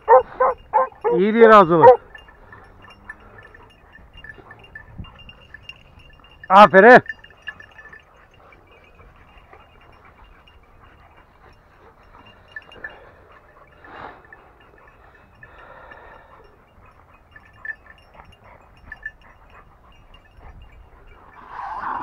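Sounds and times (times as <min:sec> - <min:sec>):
light clinks: 0:00.0 - 0:22.0.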